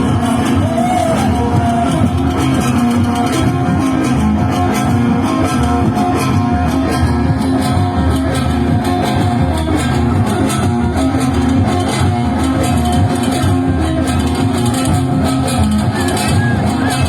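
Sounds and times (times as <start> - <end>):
loud live band music: 0.0 - 17.0.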